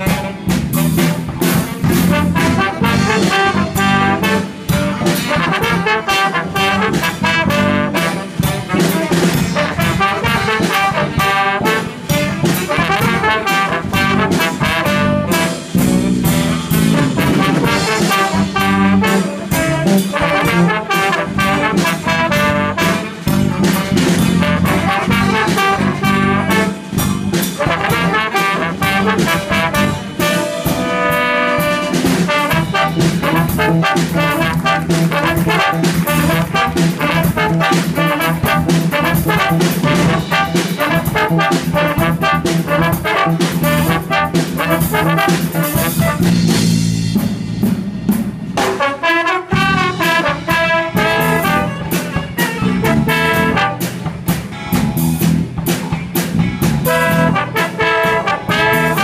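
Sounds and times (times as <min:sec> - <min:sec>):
trombones playing melody: 0:00.0 - 0:47.2, 0:48.6 - 0:55.4, 0:56.6 - 0:59.0
drum kit beat: 0:00.0 - 0:59.0.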